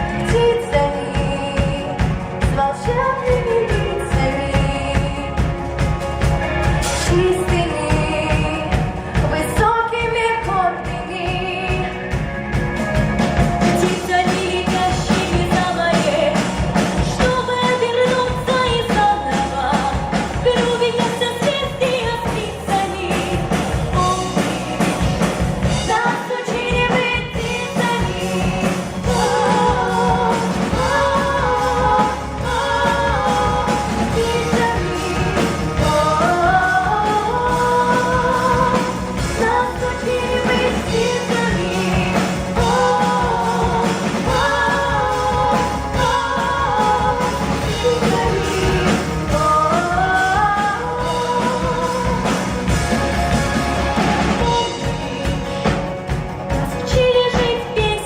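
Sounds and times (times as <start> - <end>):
women singing pop song: 0.0 - 12.4, 13.6 - 58.0
instrumental backing track: 0.0 - 58.0.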